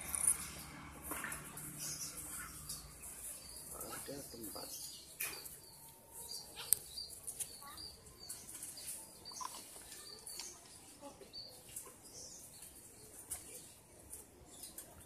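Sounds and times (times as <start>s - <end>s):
distant birds chirping: 0.0s - 13.6s.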